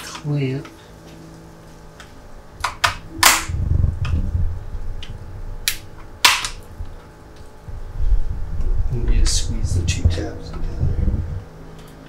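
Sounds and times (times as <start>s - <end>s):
low rumble of handling: 1.3s - 12.0s.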